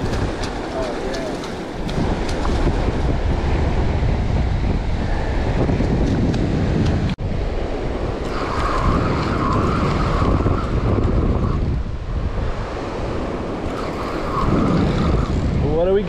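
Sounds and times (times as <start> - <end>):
surf breaking on beach: 0.0 - 6.8, 7.4 - 16.0
wind buffeting microphone: 0.0 - 16.0.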